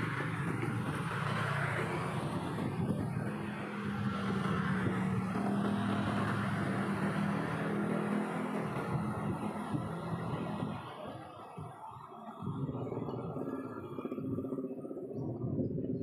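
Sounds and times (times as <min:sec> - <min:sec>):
engine hum: 0:00.0 - 0:16.0
motorbikes passing: 0:00.0 - 0:16.0
steady noisy background: 0:00.0 - 0:16.0.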